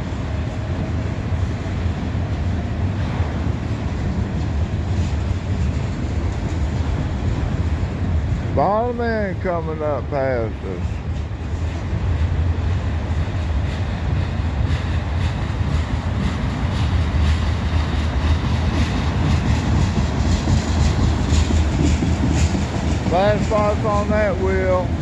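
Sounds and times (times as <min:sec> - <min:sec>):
freight train rumbling on rails: 0:00.0 - 0:25.0
rhythmic rail clicks: 0:00.0 - 0:25.0.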